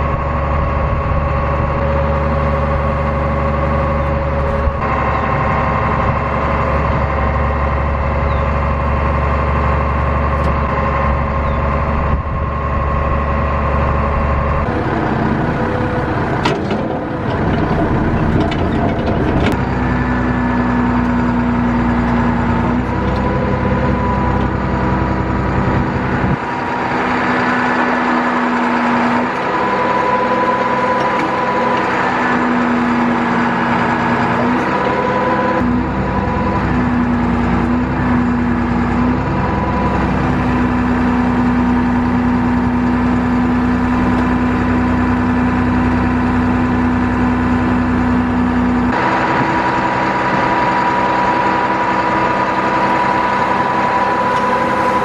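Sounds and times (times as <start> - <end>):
truck engine and hydraulic pump: 0.0 - 55.0.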